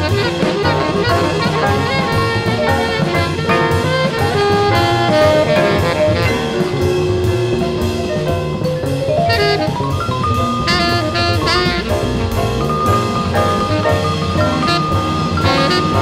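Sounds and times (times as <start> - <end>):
jazz music with horns and drums: 0.0 - 16.0.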